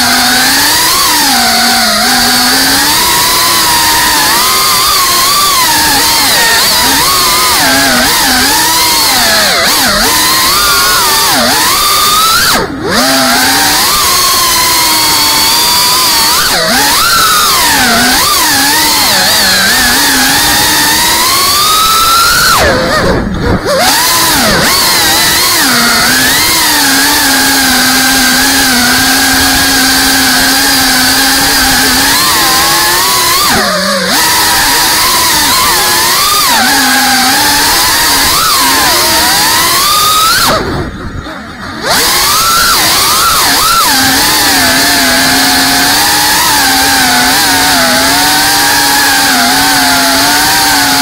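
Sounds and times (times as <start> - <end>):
quadcopter motors whining: 0.0 - 51.0.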